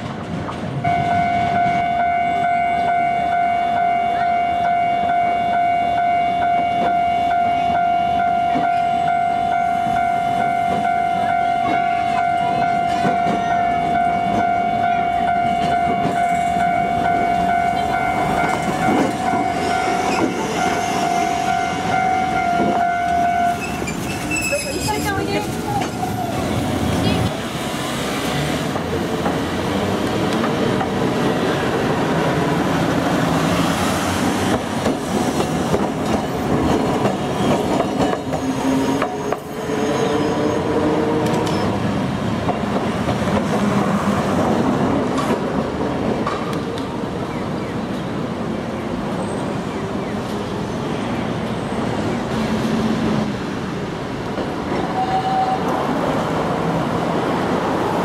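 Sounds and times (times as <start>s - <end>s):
road traffic: 0.0s - 58.0s
tram motor and wheels on rails: 0.0s - 58.0s.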